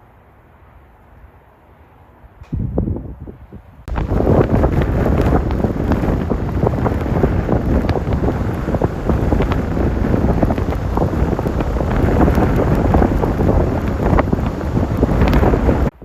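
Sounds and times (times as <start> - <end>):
wind buffeting microphone: 2.4 - 16.0.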